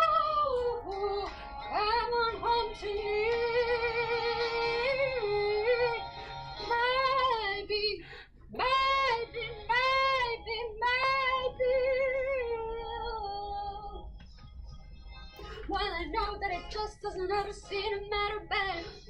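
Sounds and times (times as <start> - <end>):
girl singing into a microphone: 0.0 - 6.0, 6.6 - 8.0, 8.6 - 14.0, 15.5 - 19.0.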